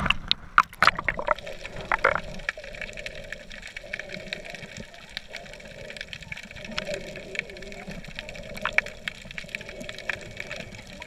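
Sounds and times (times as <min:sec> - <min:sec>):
muffled underwater wash: 0:00.0 - 0:11.0
small underwater clicks and crackles: 0:00.0 - 0:11.0.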